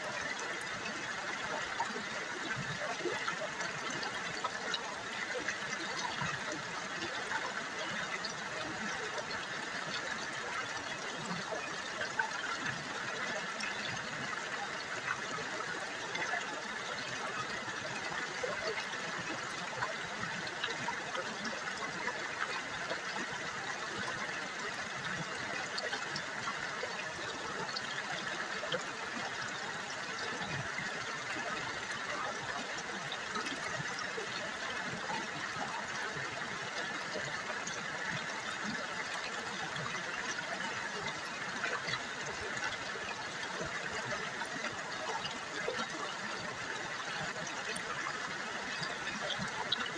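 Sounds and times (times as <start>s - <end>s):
river water babbling: 0.0s - 49.9s.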